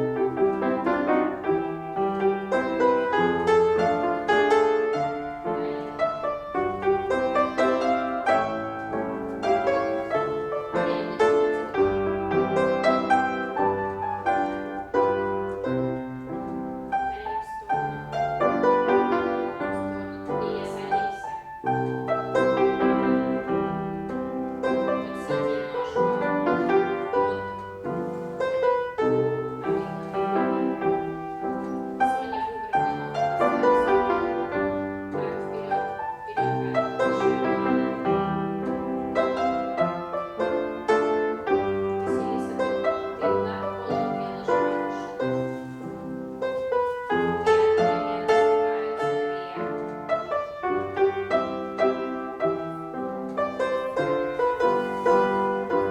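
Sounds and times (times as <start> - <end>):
piano accompaniment: 0.0 - 55.9.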